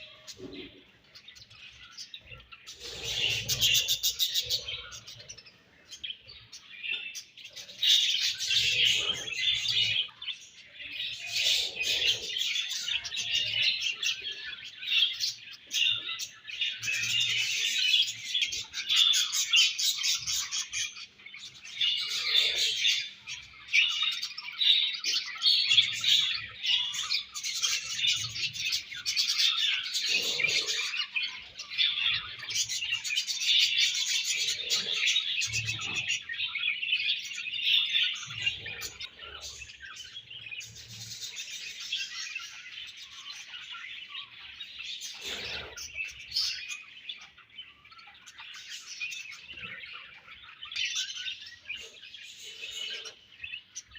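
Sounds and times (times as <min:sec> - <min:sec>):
budgerigars chattering and chirping: 0:00.0 - 0:53.9.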